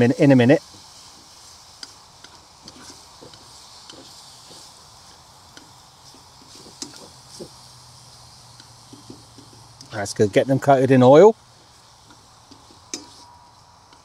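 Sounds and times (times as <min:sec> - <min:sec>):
meat sizzling in oil: 0:00.0 - 0:14.0.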